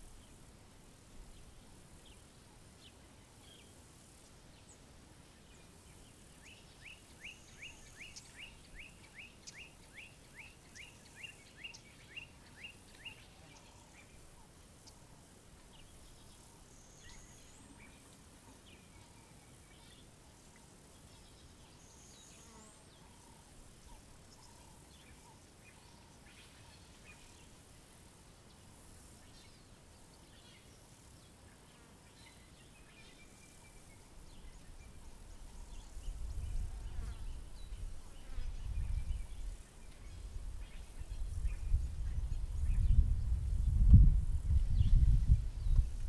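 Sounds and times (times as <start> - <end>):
insect buzz: 0.0 - 46.0.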